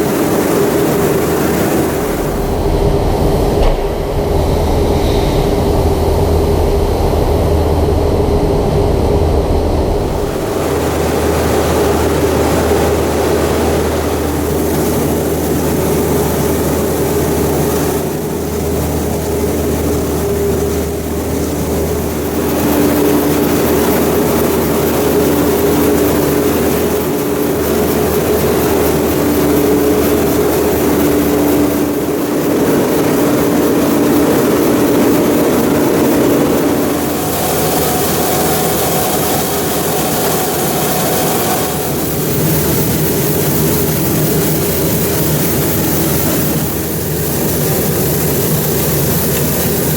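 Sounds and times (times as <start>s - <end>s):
diesel machinery running: 0.0s - 49.9s.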